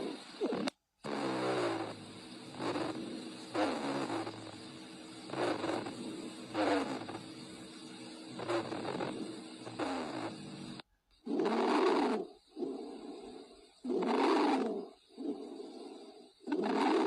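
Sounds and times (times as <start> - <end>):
wheezing breath sounds: 0.0 - 17.0.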